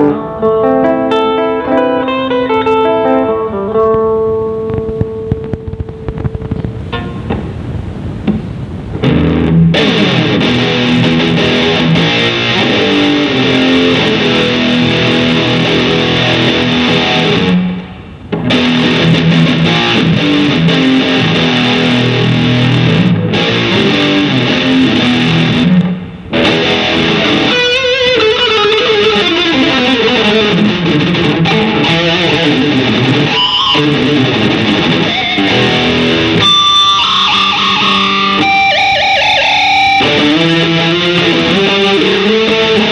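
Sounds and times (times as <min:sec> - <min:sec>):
electric guitar through an amp: 0:00.0 - 0:42.9.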